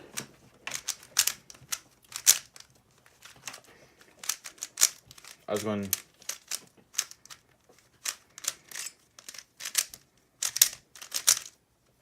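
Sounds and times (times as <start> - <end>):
puzzle cube plastic clacks: 0.0 - 11.6.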